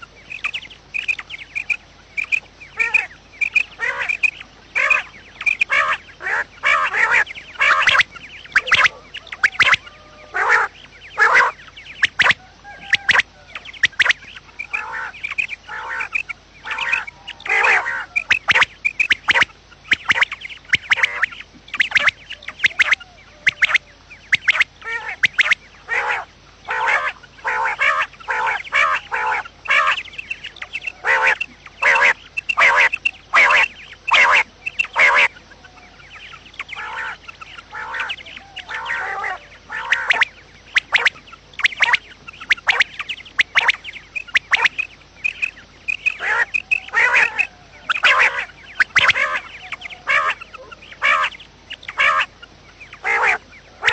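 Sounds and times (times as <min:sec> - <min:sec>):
quail calling: 0:00.0 - 0:53.9.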